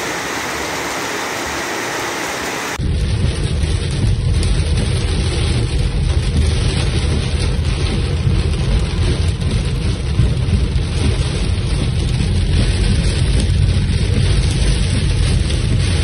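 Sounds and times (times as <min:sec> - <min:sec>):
heavy rain on a car: 0:00.0 - 0:16.0
steady low rumble: 0:00.0 - 0:16.0.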